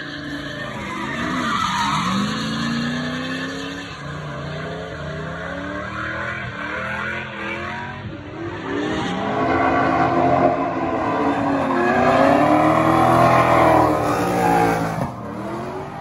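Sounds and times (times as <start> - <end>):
car engine revving hard: 2.0 - 16.0.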